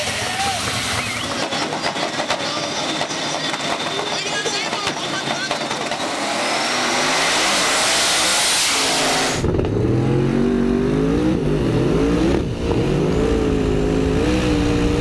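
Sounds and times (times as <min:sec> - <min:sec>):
race car engine revving: 0:00.0 - 0:15.0
rushing roar: 0:00.0 - 0:15.0.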